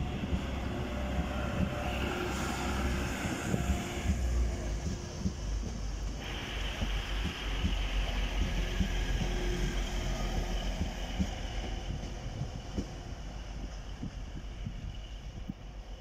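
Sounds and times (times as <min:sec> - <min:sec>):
diesel train engines running: 0:00.0 - 0:16.0.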